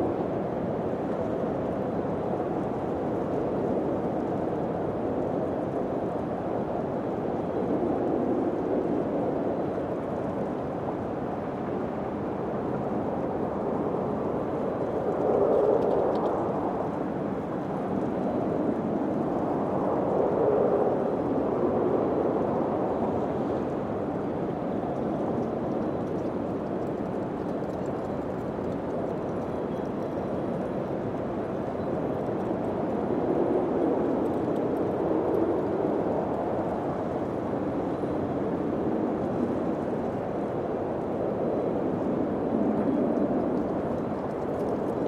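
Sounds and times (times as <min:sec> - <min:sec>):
wind blowing: 0:00.0 - 0:45.0.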